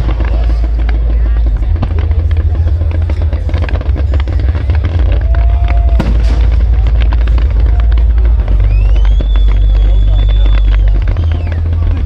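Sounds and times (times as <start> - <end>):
deep rumble: 0.0 - 12.0
fireworks crackling and banging: 0.0 - 12.0
music playing: 0.0 - 12.0.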